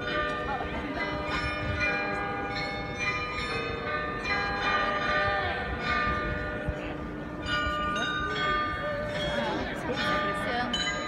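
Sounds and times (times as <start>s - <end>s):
tuned bells playing a melody: 0.0s - 11.0s.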